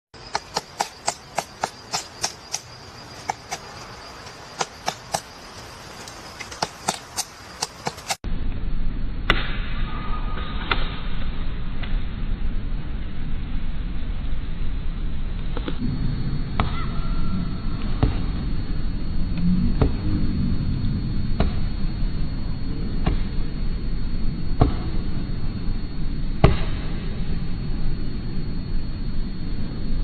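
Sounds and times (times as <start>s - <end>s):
low background rumble: 0.2s - 30.0s.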